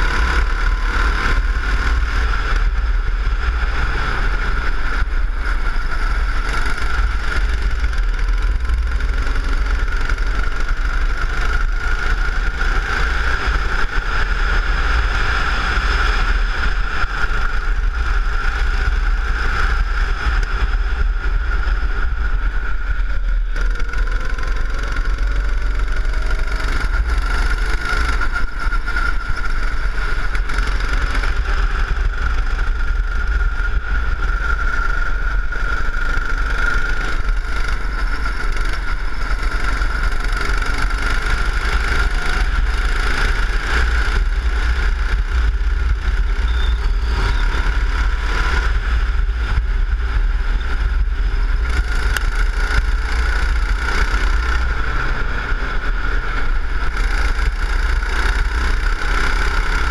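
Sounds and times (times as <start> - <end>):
go-kart engine running: 0.0 - 59.9
wind rumbling on microphone: 0.0 - 59.9.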